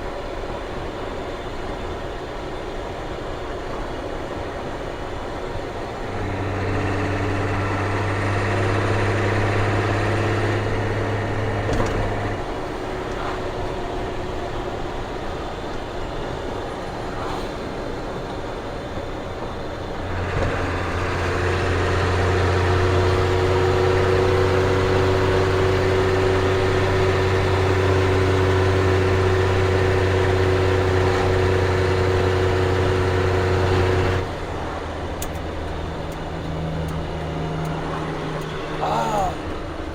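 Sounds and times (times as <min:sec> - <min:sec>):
diesel truck engine humming: 0:00.0 - 0:39.9.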